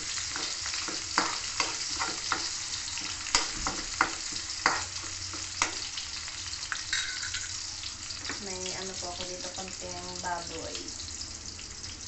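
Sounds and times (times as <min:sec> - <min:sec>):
onions sizzling in a wok: 0:00.0 - 0:12.0.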